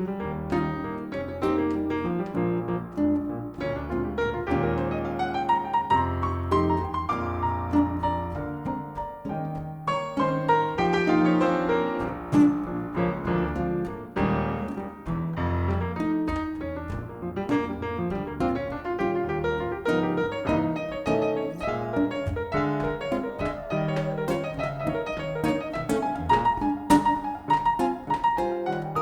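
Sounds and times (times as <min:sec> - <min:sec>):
jazz piano playing: 0:00.0 - 0:29.0.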